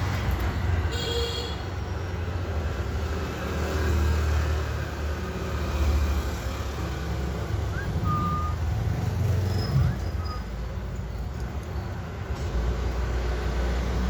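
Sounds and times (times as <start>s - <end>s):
road traffic rumble: 0.0s - 14.0s
vehicles passing: 0.0s - 14.0s.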